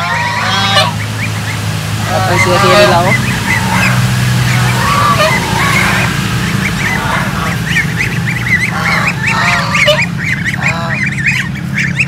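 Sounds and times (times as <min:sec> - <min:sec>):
adult geese calling: 0:00.0 - 0:12.0
goslings peeping: 0:00.0 - 0:12.0.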